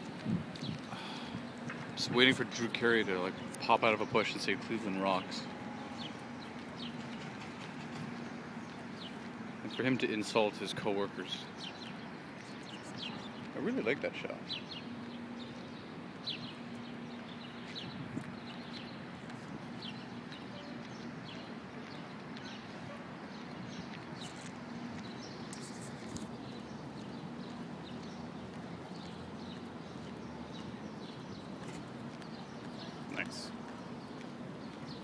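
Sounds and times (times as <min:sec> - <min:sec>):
city street hum: 0:00.0 - 0:35.0
small birds chirping: 0:00.5 - 0:35.0.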